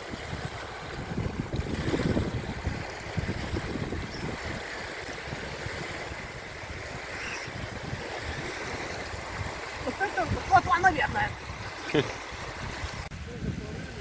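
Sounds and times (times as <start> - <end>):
waves lapping on shore: 0.0 - 14.0
wind buffeting microphone: 0.0 - 14.0.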